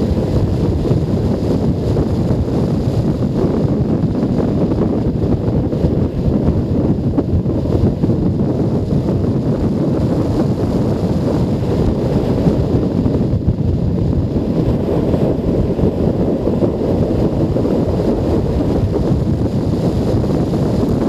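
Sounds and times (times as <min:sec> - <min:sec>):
wind roar on microphone: 0:00.0 - 0:21.0.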